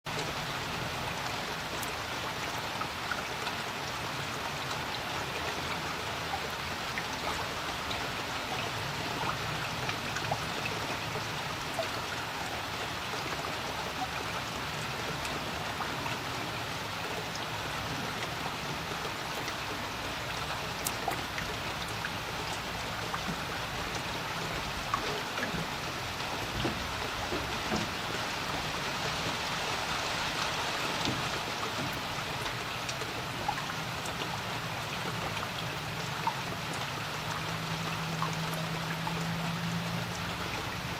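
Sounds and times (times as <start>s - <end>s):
rain on water: 0.0s - 40.9s.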